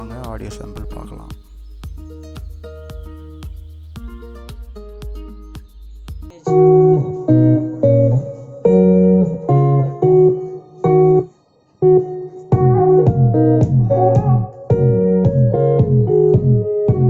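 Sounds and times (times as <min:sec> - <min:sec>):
guitar chords: 0:00.0 - 0:17.0
soft plucked guitar notes: 0:00.0 - 0:17.0.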